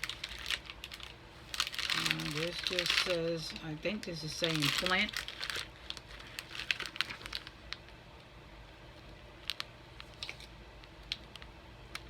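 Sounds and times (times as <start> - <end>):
plastic snack packet crinkling: 0.0 - 8.0, 9.4 - 12.0.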